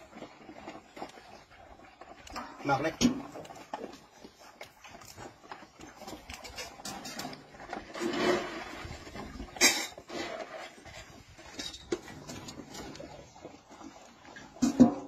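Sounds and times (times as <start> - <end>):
bowl scraping plastic bucket: 0.0 - 15.0.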